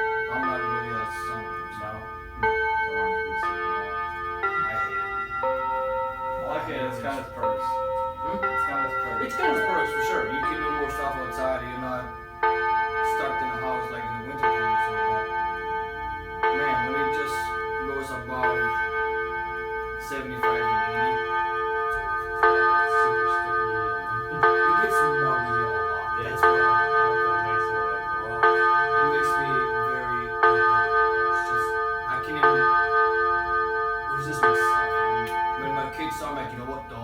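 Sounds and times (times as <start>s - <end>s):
clock chime striking: 0.0s - 37.0s.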